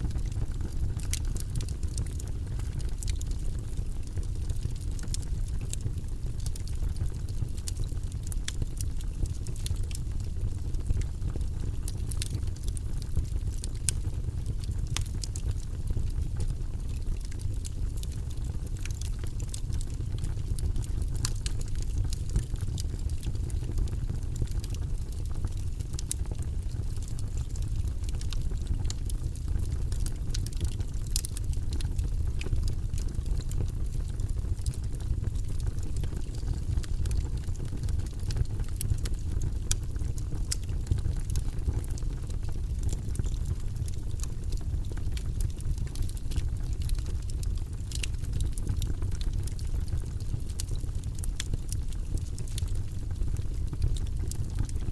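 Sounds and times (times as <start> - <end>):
fire flames rumbling: 0.0 - 54.9
wood crackling and popping: 0.0 - 54.9.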